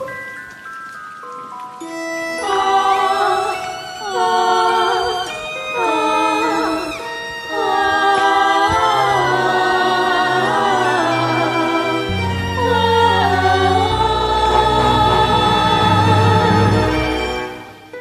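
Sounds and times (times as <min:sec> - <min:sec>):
voices singing in harmony: 0:01.8 - 0:18.0.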